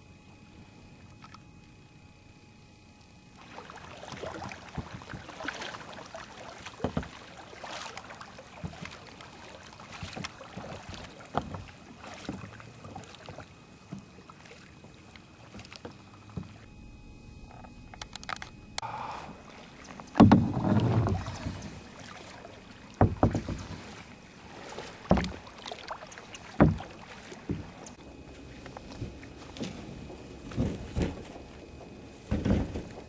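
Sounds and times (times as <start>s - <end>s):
paddles splashing in water: 3.4s - 16.7s, 18.9s - 33.0s.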